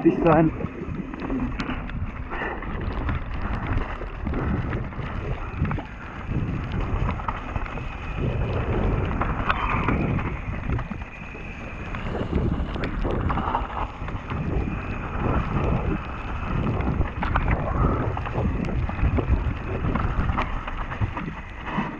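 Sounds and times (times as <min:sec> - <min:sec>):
wind buffeting microphone: 0:00.0 - 0:21.8
bike rattling over bumps: 0:00.0 - 0:21.9
bike tyres rumbling on dirt: 0:00.0 - 0:21.9.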